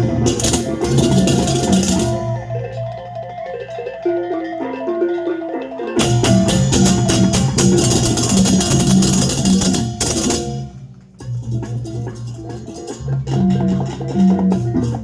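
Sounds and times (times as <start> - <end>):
gamelan ensemble with cymbals and gongs: 0.0 - 15.0
pitched bronze notes: 0.0 - 15.0.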